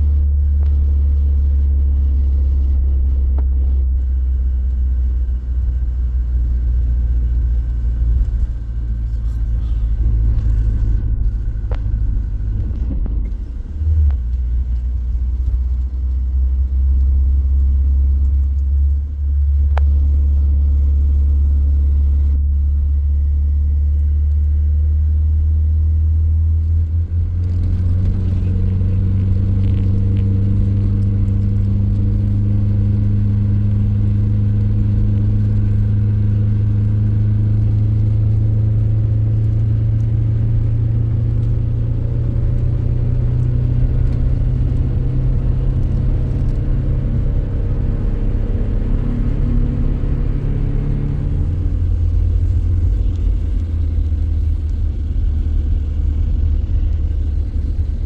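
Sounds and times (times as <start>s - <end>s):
engine hum: 0.0s - 58.0s
vehicle rumbling on the move: 0.0s - 58.0s.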